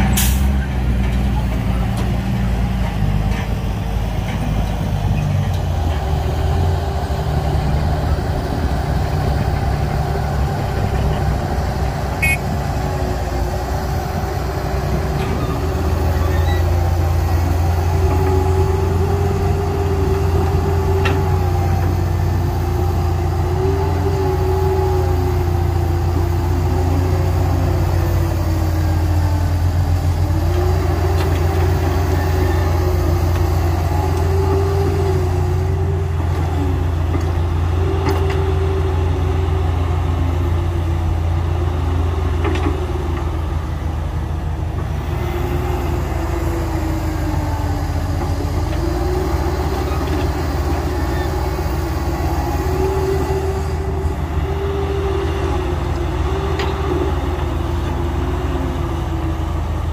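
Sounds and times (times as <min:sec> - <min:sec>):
diesel machinery rumbling: 0:00.0 - 0:59.9.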